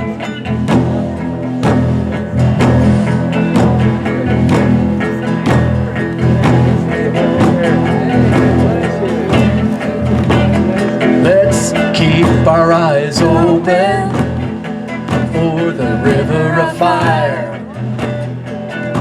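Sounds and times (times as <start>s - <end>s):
guitar: 0.0s - 19.0s
large drum beating: 0.0s - 19.0s.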